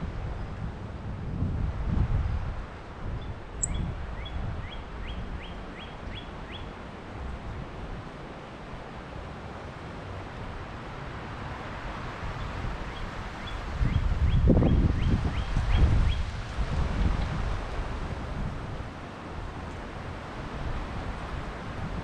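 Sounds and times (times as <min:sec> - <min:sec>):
wind gusting over microphone: 0:00.0 - 0:22.0.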